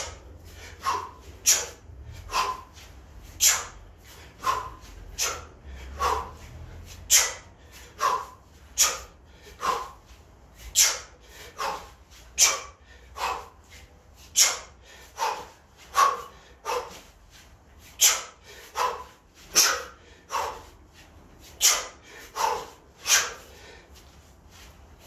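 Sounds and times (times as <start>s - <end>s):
man breathing out forcefully: 0.0s - 25.0s.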